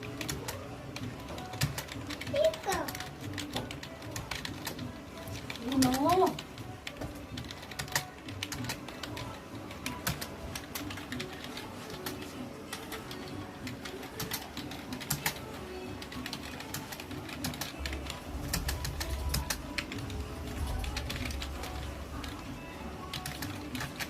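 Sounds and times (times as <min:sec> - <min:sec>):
keyboard keys clicking: 0:00.0 - 0:24.0
music playing: 0:00.0 - 0:24.0.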